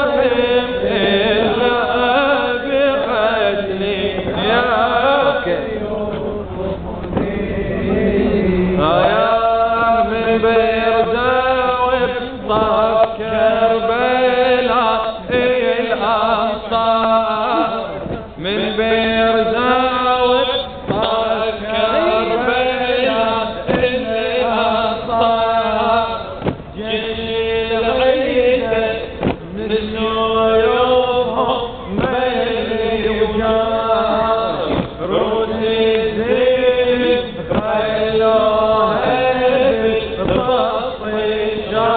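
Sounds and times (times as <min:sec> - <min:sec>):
man chanting a lament: 0:00.0 - 0:41.9.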